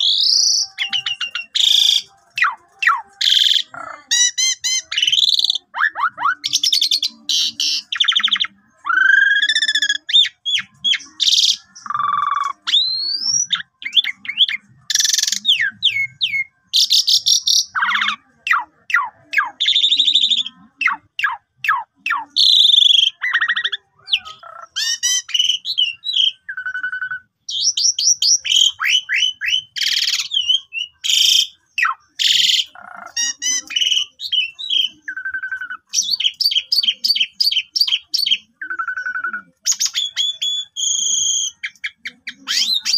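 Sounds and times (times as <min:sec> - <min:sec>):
bird singing varied song: 0:00.0 - 0:42.9.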